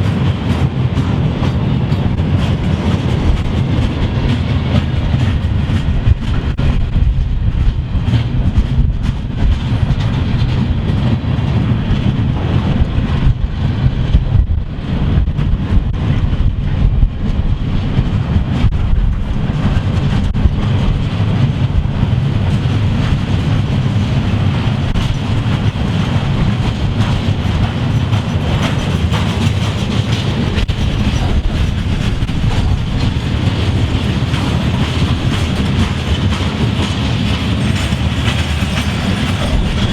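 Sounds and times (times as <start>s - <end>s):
train wheels rumbling on track: 0.0s - 39.9s
wheels clicking over rail joints: 0.0s - 39.9s.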